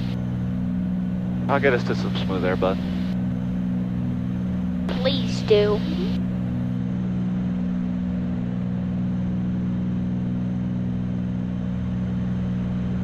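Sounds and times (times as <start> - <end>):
airplane engines droning: 0.0 - 13.0.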